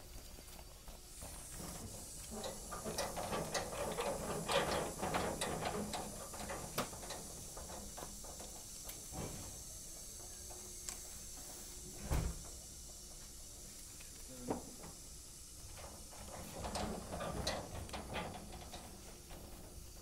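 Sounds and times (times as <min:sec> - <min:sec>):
steady high hiss: 0:00.0 - 0:20.0
knocks and rustling: 0:01.2 - 0:13.1, 0:15.6 - 0:20.0.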